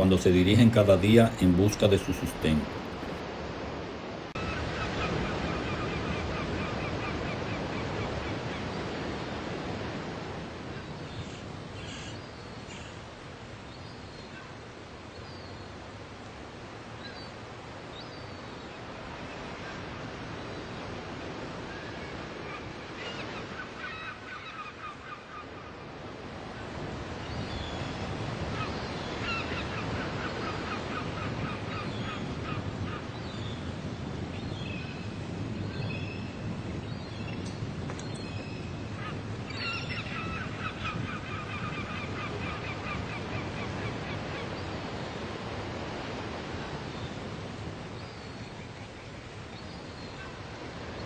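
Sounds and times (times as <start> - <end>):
sea rushing: 0.0 - 51.0
wind: 0.0 - 51.0.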